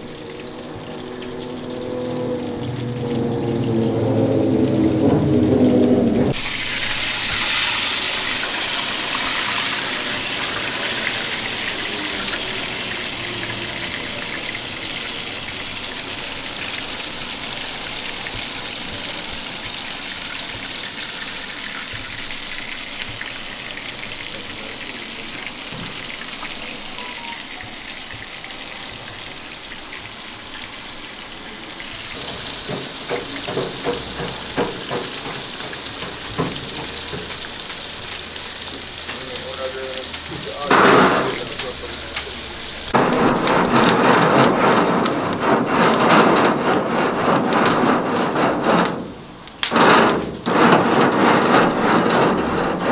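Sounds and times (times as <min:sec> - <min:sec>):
chicken deep-frying in oil: 0:00.0 - 0:52.9
oil crackling: 0:00.0 - 0:52.9.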